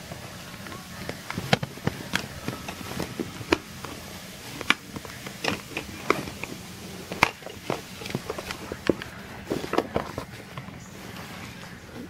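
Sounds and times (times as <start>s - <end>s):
cardboard packaging clicks and crinkles: 0.6s - 11.9s.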